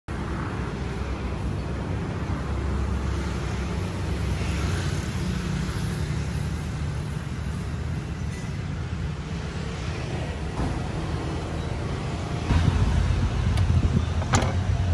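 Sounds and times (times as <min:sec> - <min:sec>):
road traffic rumble: 0:00.1 - 0:14.9.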